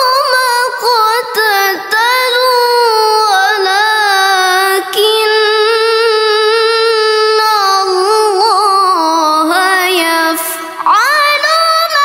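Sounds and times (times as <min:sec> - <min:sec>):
girl reciting melodically: 0:00.0 - 0:12.0.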